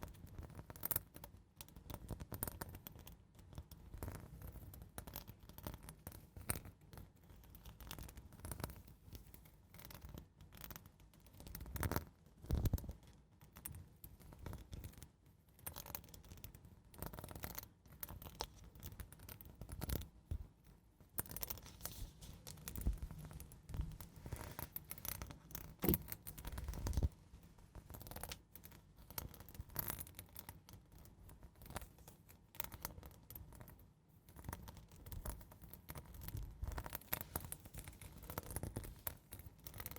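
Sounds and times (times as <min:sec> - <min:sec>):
soft scratching and scraping: 0:05.6 - 0:39.9.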